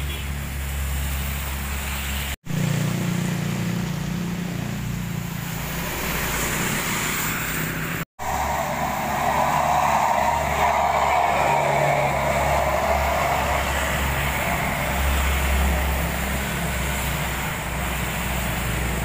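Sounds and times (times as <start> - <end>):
tyres hissing on wet road: 0.0 - 19.0
truck diesel engine humming: 2.5 - 19.0.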